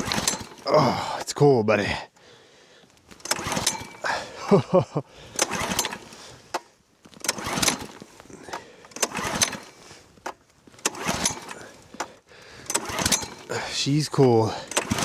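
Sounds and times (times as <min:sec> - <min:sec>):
small engine cranking: 0:00.0 - 0:01.4, 0:03.0 - 0:15.0.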